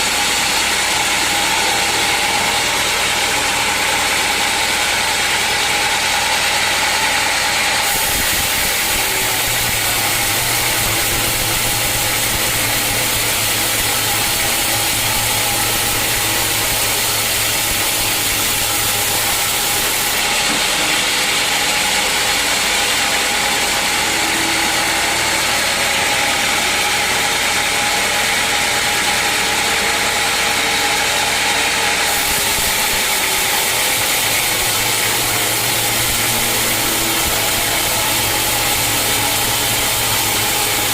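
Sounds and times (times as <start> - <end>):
sawmill engine and saw running: 0.0 - 40.9.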